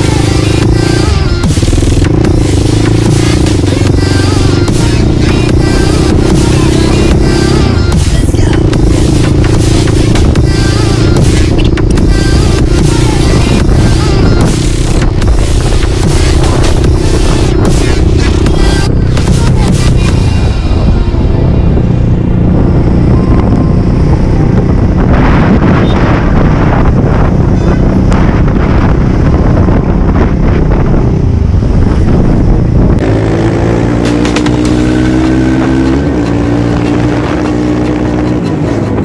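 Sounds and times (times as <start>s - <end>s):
motorcycle engine accelerating: 0.0s - 39.0s
wind rush: 0.0s - 39.0s.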